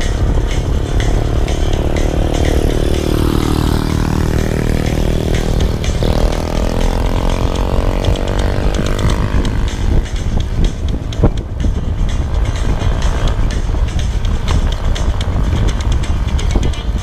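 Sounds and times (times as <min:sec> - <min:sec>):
motorcycle engine revving: 0:00.0 - 0:17.0
wind buffeting microphone: 0:00.0 - 0:17.0.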